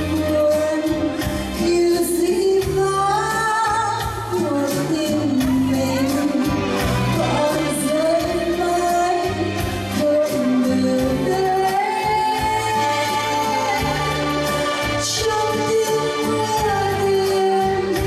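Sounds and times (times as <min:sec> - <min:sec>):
woman singing into a microphone: 0:00.0 - 0:18.0.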